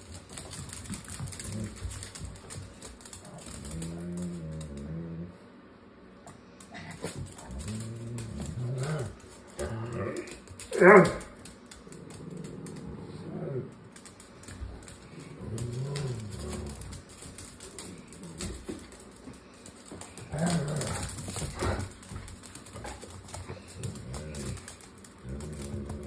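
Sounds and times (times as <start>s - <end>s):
claws clicking on hard floor: 0.0s - 5.1s, 6.2s - 26.0s
small dogs play growling: 0.0s - 26.0s.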